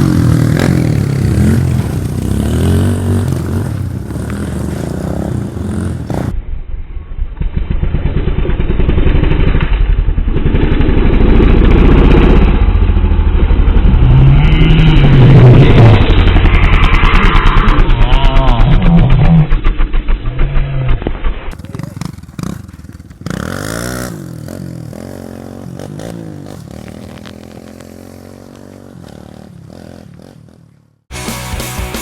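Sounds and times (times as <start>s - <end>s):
dirt bike engine revving: 0.0s - 6.4s, 7.8s - 31.0s.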